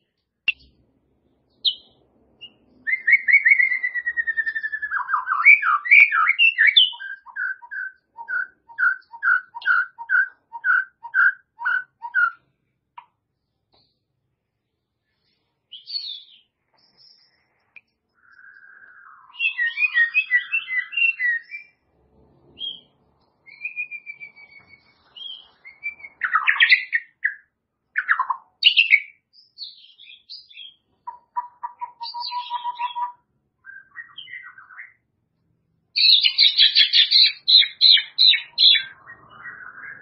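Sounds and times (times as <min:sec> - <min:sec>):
songbird singing: 0:00.0 - 0:14.1, 0:14.7 - 0:35.1, 0:36.0 - 0:40.0.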